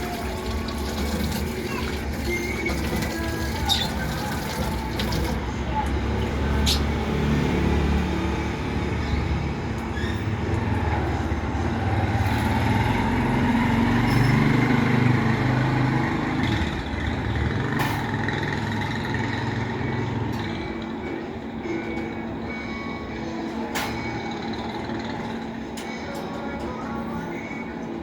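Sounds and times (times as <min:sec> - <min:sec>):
large engine running: 0:00.0 - 0:26.0.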